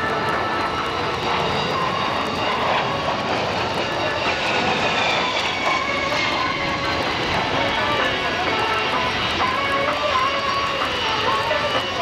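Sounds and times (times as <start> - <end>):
high jet engine whine: 0.0 - 12.0
jet aircraft roar: 0.0 - 12.0.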